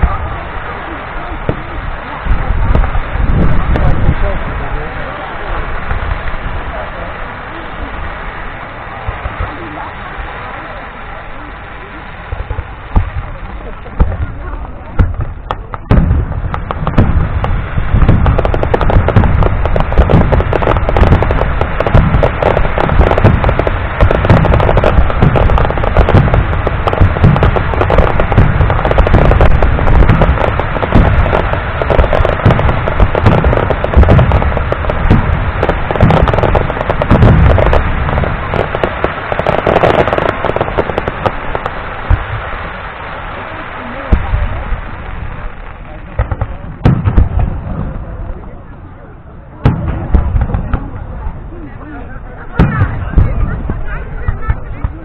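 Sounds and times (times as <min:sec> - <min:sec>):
deep firework booms: 0:00.0 - 0:55.0
firework crackling: 0:00.0 - 0:55.0.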